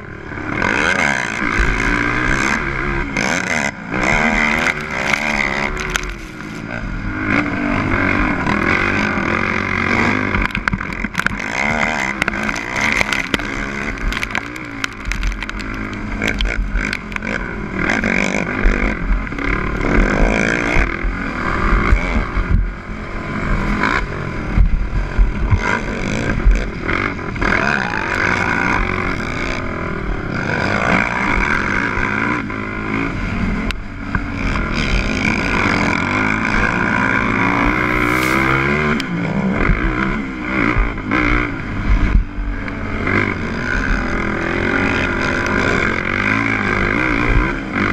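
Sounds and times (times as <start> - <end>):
quad engine revving: 0.3 - 22.5, 25.5 - 47.9.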